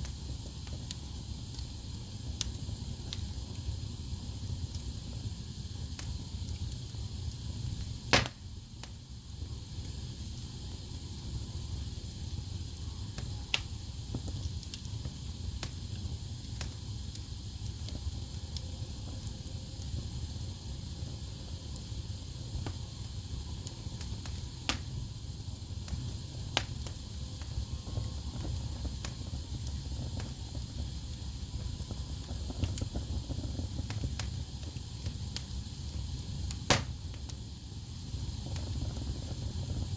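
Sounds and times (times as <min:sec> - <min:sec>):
wood fire burning: 0:00.0 - 0:39.9.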